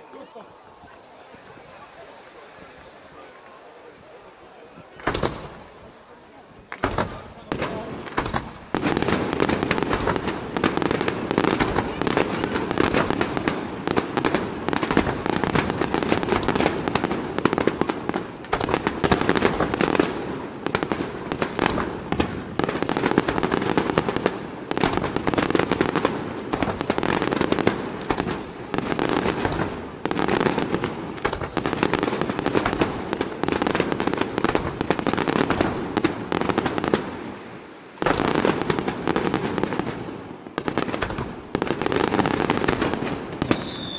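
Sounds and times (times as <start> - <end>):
fireworks shells exploding: 0.9 - 5.8, 6.6 - 43.9.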